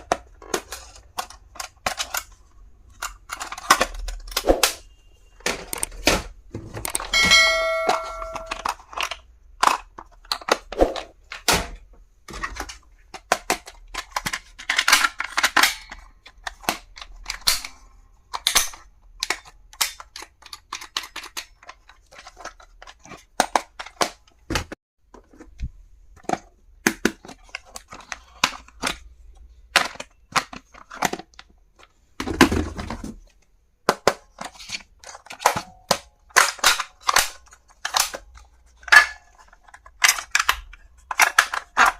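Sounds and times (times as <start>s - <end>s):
plastic items clicking and tapping: 0.0s - 41.9s.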